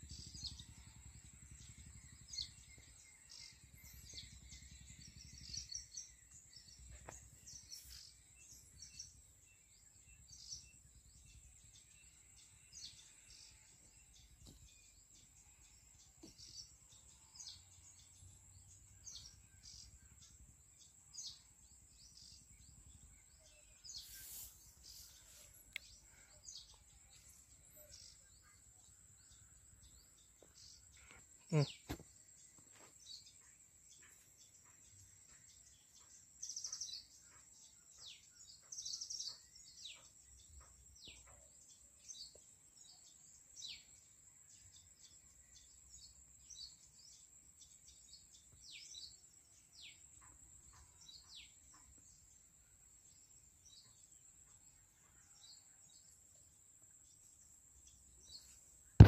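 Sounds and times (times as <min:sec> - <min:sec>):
birds chirping: 0:00.0 - 0:52.4.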